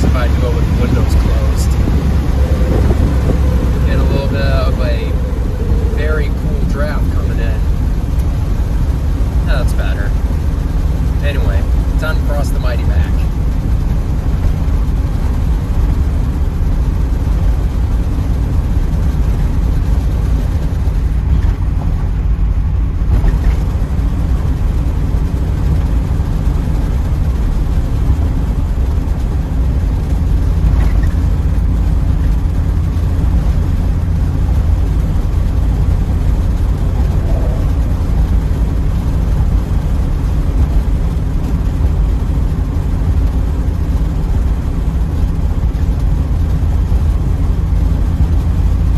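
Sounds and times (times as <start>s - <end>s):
car engine rumble: 0.0s - 48.9s
road noise: 0.0s - 48.9s.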